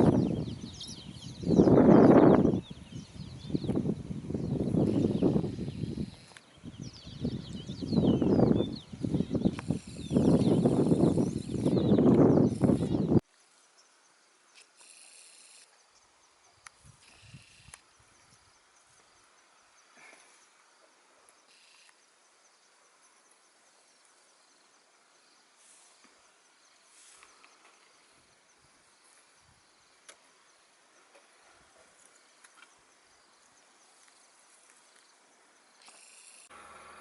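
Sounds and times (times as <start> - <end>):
insect chirping: 0.0 - 37.0.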